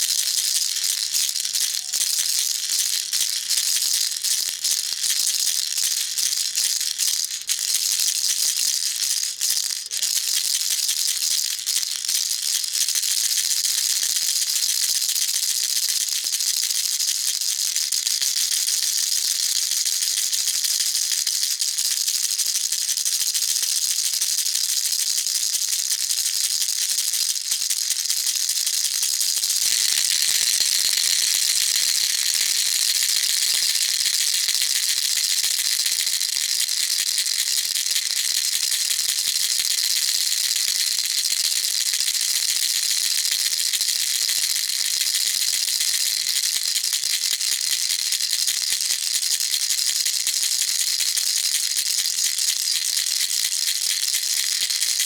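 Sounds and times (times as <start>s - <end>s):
baby rattle shaken: 0.0s - 14.9s, 18.9s - 55.0s.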